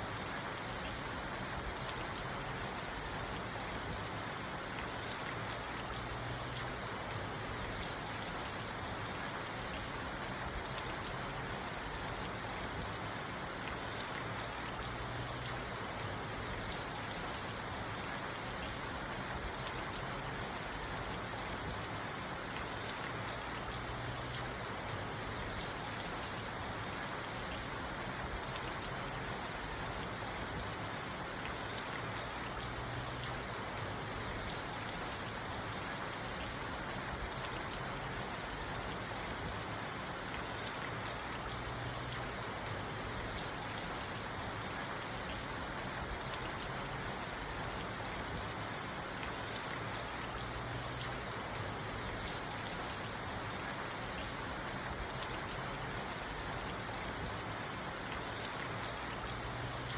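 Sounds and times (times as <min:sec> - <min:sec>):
rain falling on a car: 0:00.0 - 0:59.9.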